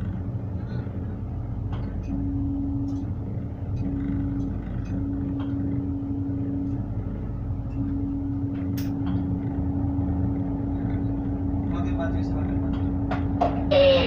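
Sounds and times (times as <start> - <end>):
humming tone: 0.0 - 14.0
tugboat diesel engine running: 0.0 - 14.0.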